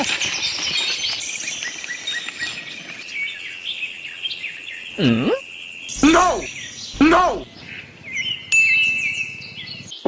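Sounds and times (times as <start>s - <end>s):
birds chirping: 0.4s - 10.0s.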